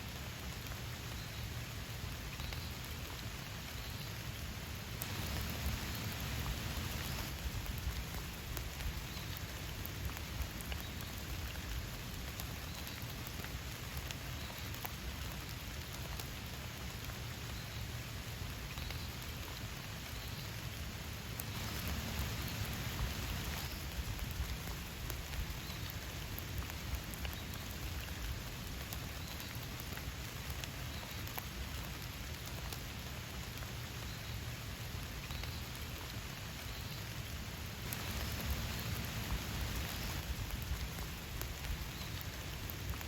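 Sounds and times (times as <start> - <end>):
raindrops ticking: 0.0 - 43.0
steady rain falling: 0.0 - 43.0.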